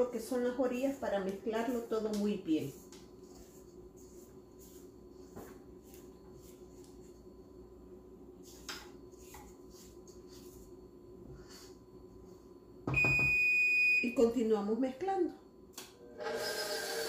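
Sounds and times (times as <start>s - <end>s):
low steady hum: 0.0s - 16.2s.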